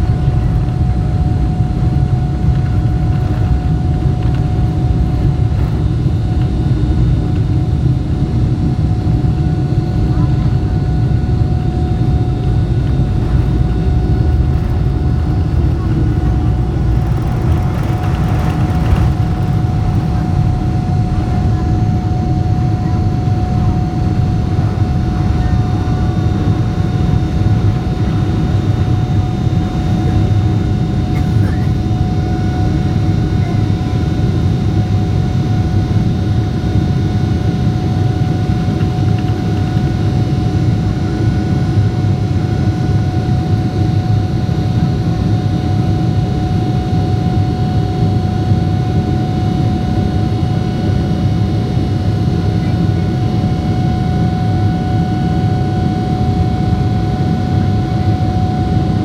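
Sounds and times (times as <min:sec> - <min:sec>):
jet engine rumble and whine: 0:00.0 - 0:59.0.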